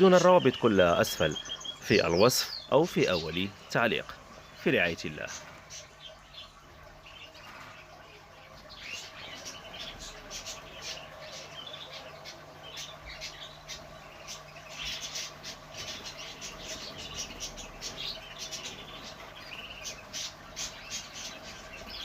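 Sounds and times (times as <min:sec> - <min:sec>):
faint steady hum: 0:00.0 - 0:22.0
small birds chirping: 0:00.0 - 0:22.0.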